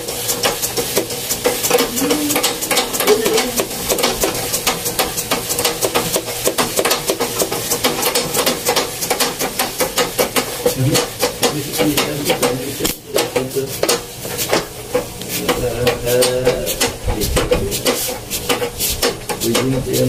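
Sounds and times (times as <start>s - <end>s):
treadle sewing machine clattering: 0.0s - 20.0s.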